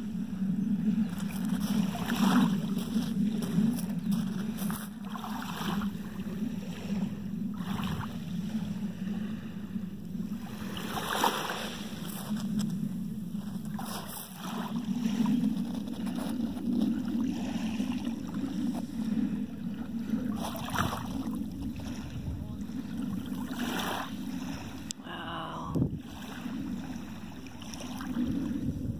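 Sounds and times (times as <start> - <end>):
small waves lapping on pebbles: 0.0 - 9.5, 10.3 - 28.9
steady low rumble: 0.0 - 28.9.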